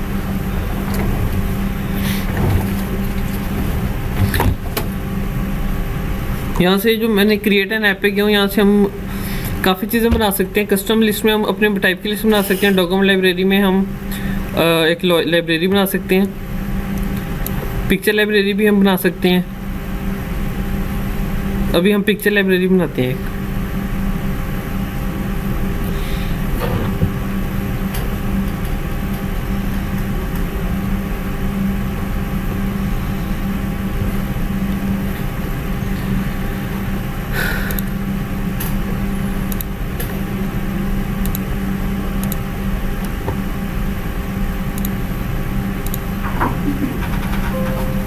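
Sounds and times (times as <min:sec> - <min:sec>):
machine-like background hum: 0:00.0 - 0:48.0.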